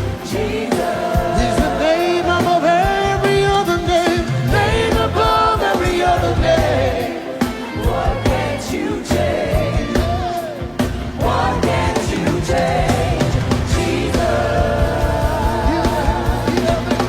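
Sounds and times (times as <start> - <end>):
band with drums: 0.0 - 17.0
gospel singing: 0.0 - 17.0.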